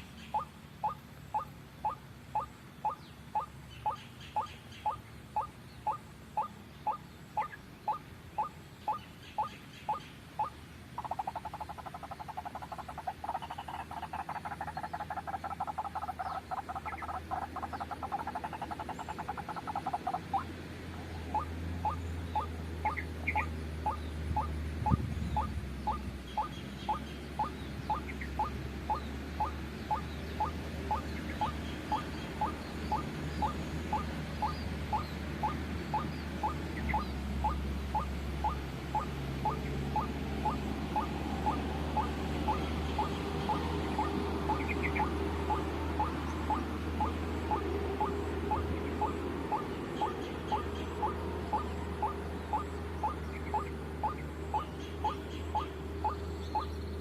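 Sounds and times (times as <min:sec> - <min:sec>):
waterhen calling: 0:00.0 - 0:57.0.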